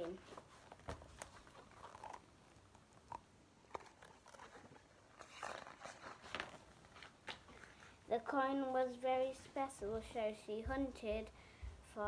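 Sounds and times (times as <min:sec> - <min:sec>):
soft rustle: 0:00.0 - 0:12.0.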